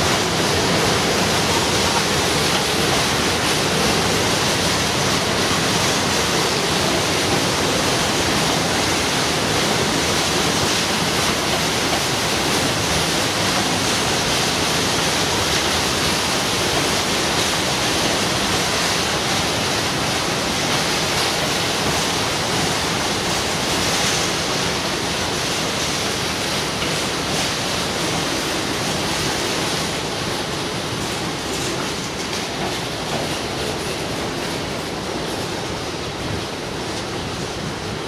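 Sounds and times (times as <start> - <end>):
train wheels rushing on rail: 0.0 - 38.0.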